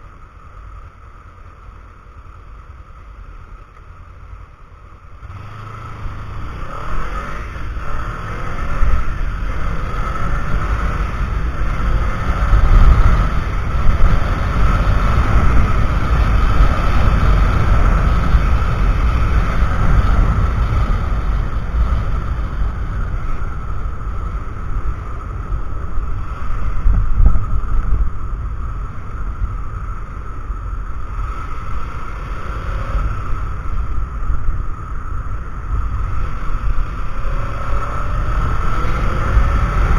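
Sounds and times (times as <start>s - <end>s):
motorcycle engine running: 0.0s - 39.9s
wind buffeting microphone: 7.2s - 39.9s.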